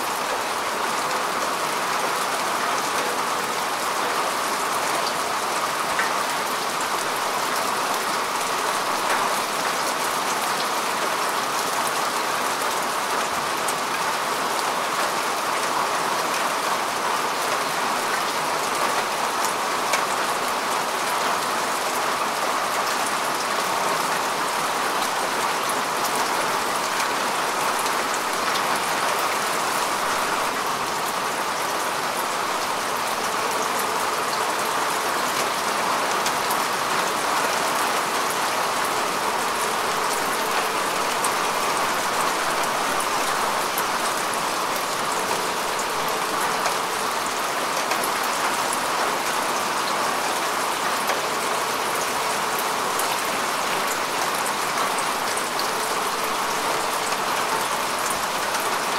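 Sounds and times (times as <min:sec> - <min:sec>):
rain falling on grass: 0:00.0 - 0:58.9.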